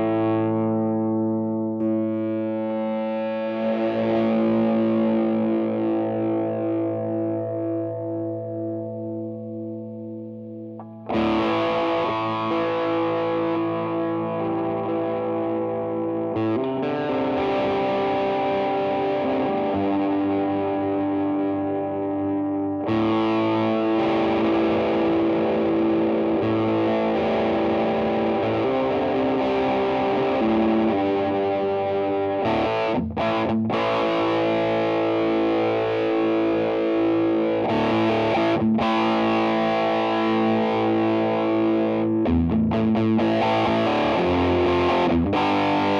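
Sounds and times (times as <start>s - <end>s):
overdriven electric guitar chords: 0.0s - 45.9s.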